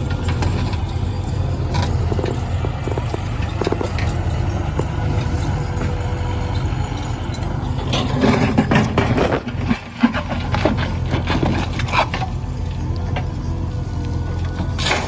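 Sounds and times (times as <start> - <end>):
diesel engine running: 0.0 - 15.0
knocks and clatters: 0.0 - 15.0.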